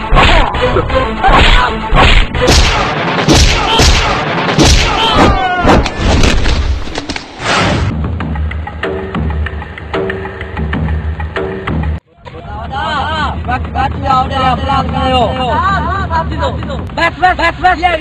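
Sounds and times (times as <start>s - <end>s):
music: 0.0s - 6.0s, 6.6s - 18.0s.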